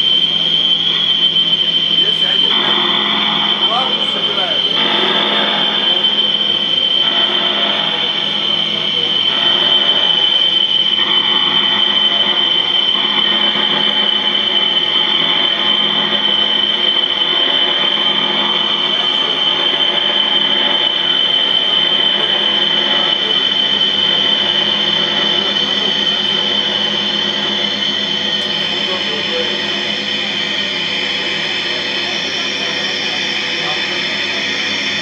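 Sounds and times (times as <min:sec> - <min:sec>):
electronic noise drone music: 0:00.0 - 0:35.0
piercing high tone: 0:00.0 - 0:35.0.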